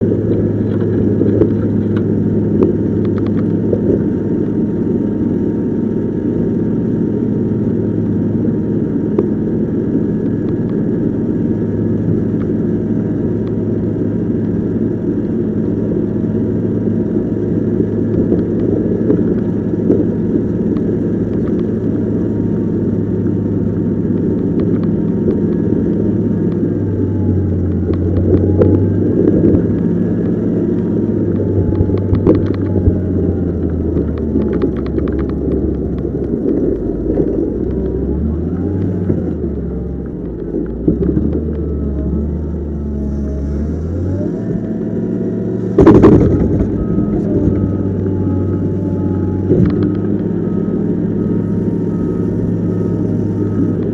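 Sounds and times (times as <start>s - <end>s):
diesel engine running: 0.0s - 53.9s
faint steady whine: 0.0s - 53.9s.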